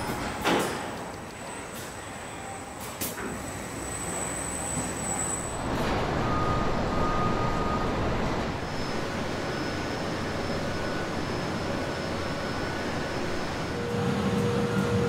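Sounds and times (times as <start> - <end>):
factory machinery din: 0.0 - 15.0.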